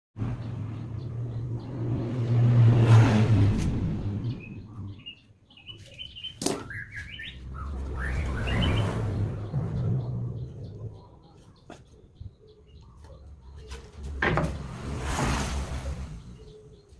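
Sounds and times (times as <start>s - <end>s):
birds chirping: 0.2s - 16.9s.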